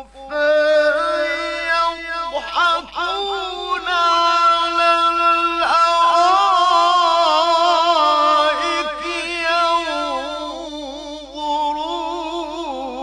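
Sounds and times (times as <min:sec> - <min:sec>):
man chanting recitation: 0:00.0 - 0:13.0.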